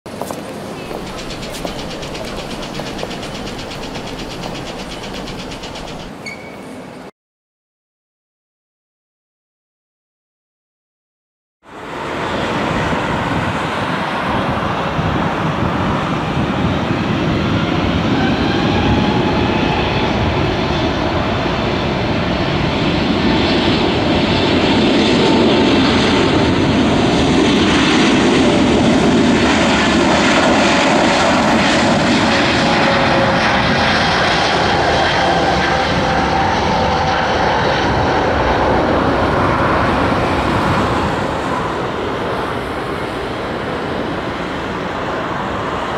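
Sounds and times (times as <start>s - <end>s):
jet engines running: 0.1s - 6.2s, 11.8s - 45.9s.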